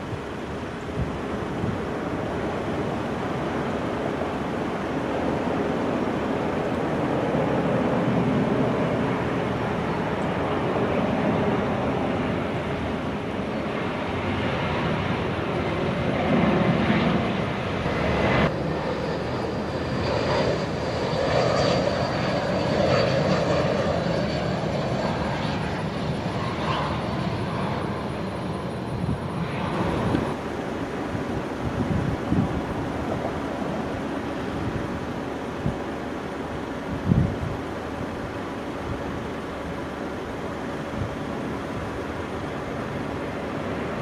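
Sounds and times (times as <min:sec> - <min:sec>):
high fan whine: 0:00.0 - 0:44.0
jet engines rushing: 0:00.0 - 0:44.0.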